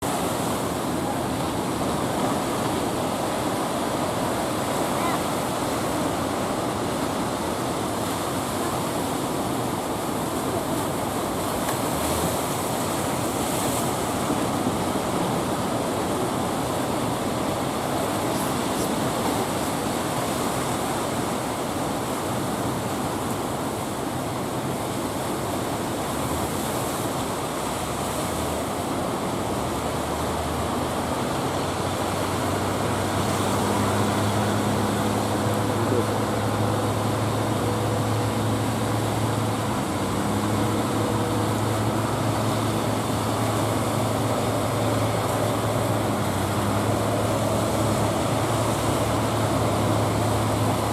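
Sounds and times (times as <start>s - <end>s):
heavy surf breaking: 0.0s - 50.9s
boat motor drone: 0.1s - 50.9s.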